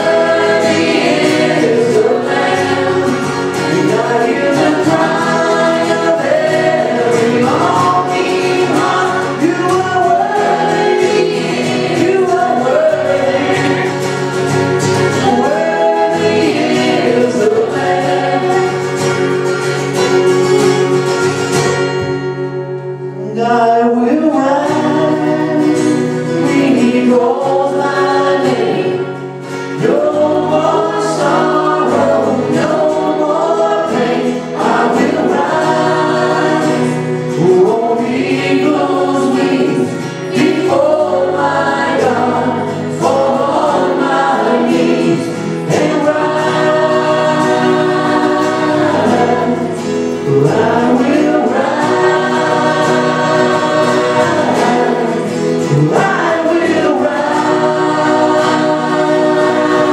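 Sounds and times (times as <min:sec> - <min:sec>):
voices singing together: 0:00.0 - 0:21.7, 0:23.3 - 0:59.9
acoustic and electric guitars: 0:00.0 - 0:59.9.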